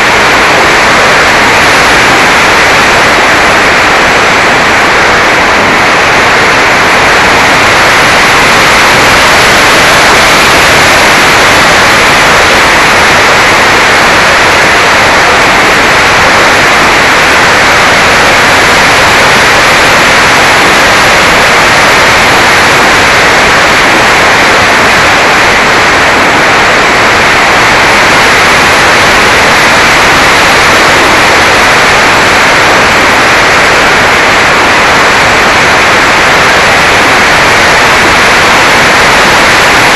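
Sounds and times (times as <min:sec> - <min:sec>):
airflow and propeller rushing: 0:00.0 - 0:39.9.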